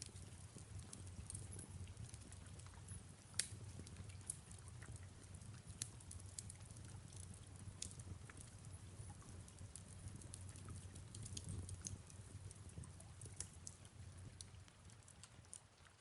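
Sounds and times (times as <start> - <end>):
fireplace crackling: 0.0 - 16.0.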